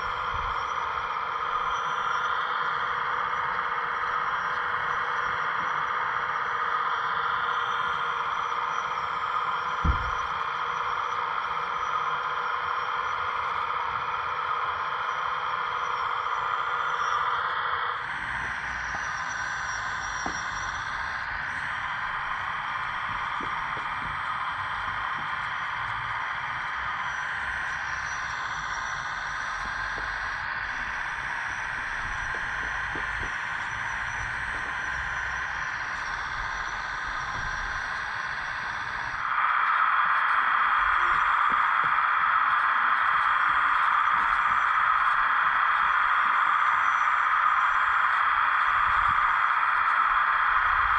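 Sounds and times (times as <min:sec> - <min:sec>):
hydraulic pump and motors whining: 0:00.0 - 0:50.9.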